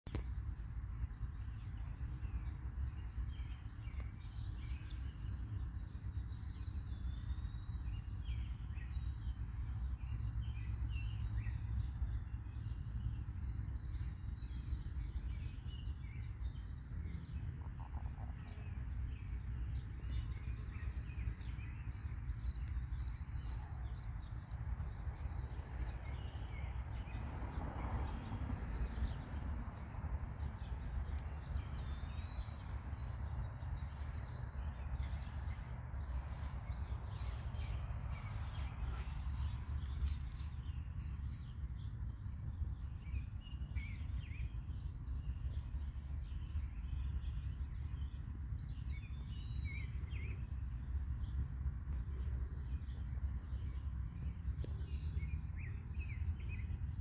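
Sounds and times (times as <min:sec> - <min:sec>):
birds chirping: 0:00.1 - 0:51.4
steady low rumble: 0:00.1 - 0:57.0.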